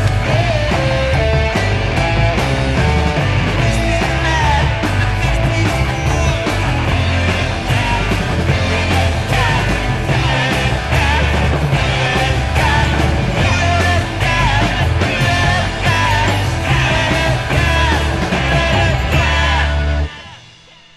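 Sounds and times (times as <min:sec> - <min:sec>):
garage punk rock from a turntable: 0:00.0 - 0:20.9.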